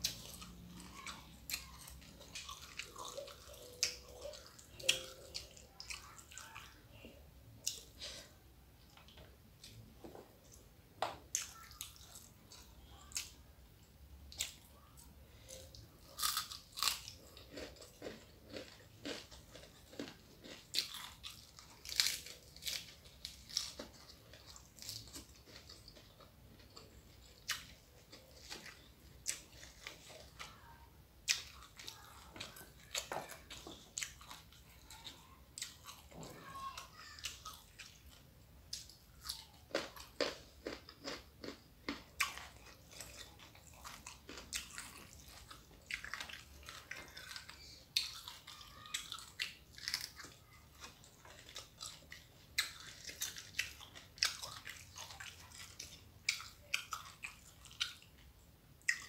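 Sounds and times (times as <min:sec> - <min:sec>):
chewing crunchy food: 0:00.0 - 0:13.5, 0:14.3 - 0:59.0.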